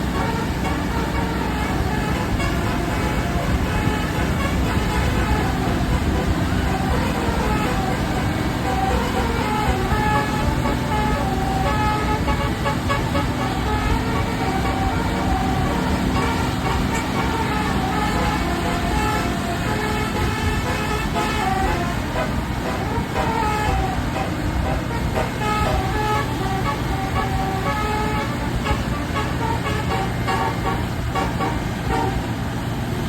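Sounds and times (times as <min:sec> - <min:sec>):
bus engine running: 0:00.0 - 0:33.0
bus horn playing a melody: 0:00.0 - 0:33.0.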